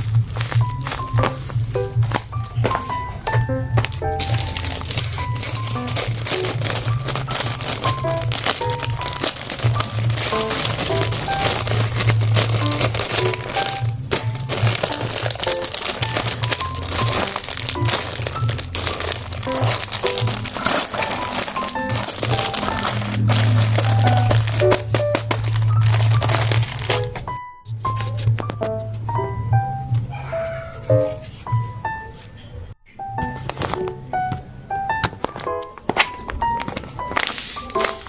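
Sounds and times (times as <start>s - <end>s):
paper crinkling and rustling: 0.0s - 29.1s, 30.7s - 32.6s, 33.2s - 38.0s
background music with plucked notes: 0.0s - 38.0s.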